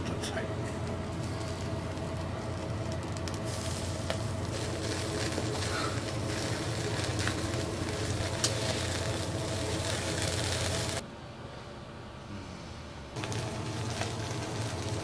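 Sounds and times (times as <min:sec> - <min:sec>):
machine-like hum: 0:00.0 - 0:15.0
food crackling and sizzling: 0:00.6 - 0:11.0, 0:13.2 - 0:15.0.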